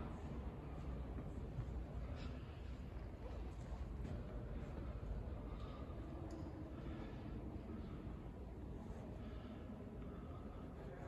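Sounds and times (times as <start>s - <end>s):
low rumble and hiss of room: 0.0s - 11.0s.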